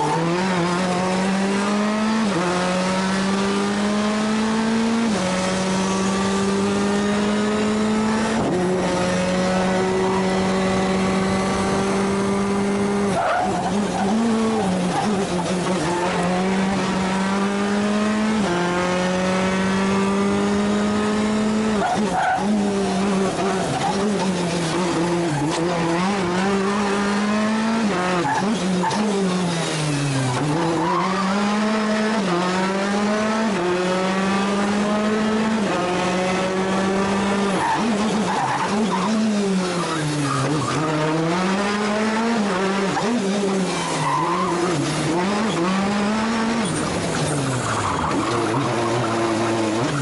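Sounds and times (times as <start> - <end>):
rally car engine at full throttle: 0.0 - 50.0
tyre and road noise: 0.0 - 50.0.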